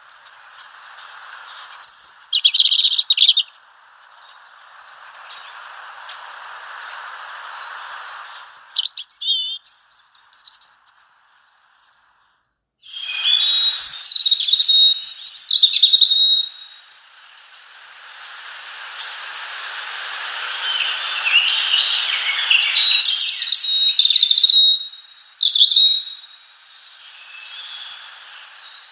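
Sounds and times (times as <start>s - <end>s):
rising hiss: 0.0s - 12.0s, 12.9s - 28.9s
songbirds chirping: 0.0s - 28.9s.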